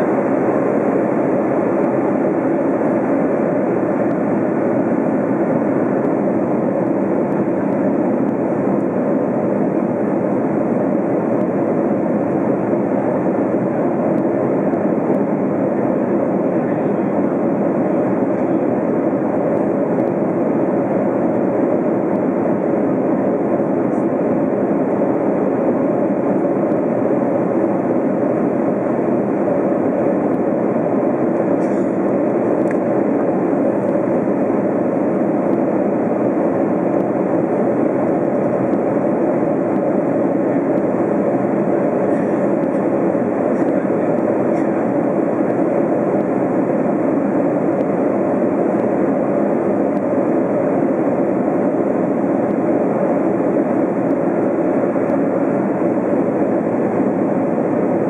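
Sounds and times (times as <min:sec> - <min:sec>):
airplane cabin airflow and engine noise: 0:00.0 - 0:58.0.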